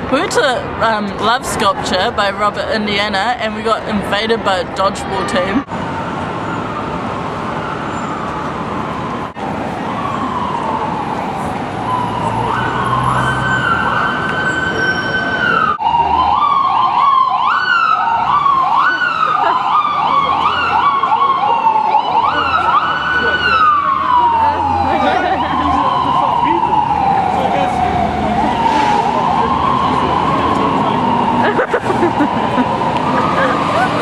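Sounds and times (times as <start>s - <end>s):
street traffic noise: 0.0s - 34.0s
emergency vehicle siren: 5.1s - 34.0s.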